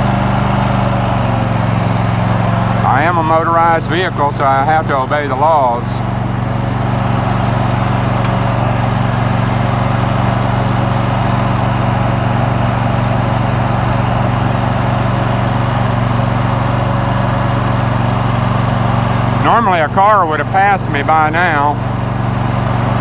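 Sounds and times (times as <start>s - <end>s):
riding lawn mower engine: 0.0s - 23.0s.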